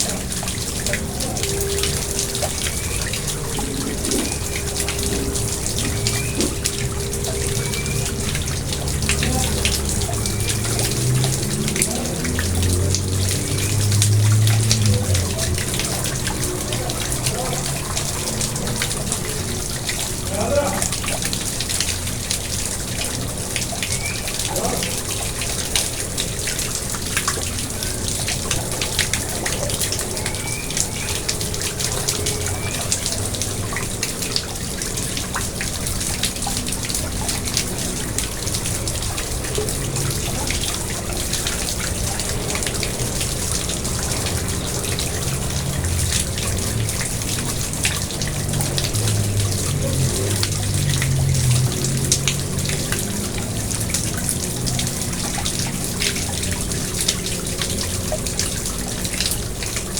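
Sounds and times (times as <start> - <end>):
pond water trickling and splashing: 0.0 - 59.9
water drips: 0.0 - 59.9.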